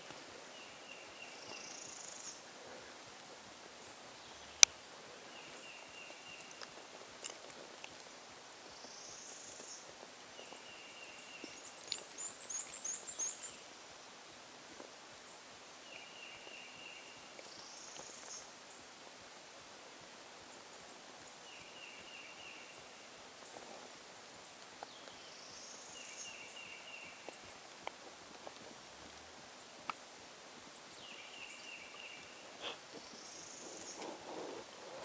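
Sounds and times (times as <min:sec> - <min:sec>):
songbirds singing: 0:00.0 - 0:19.0, 0:20.4 - 0:35.0
leaves rustling: 0:00.0 - 0:35.0.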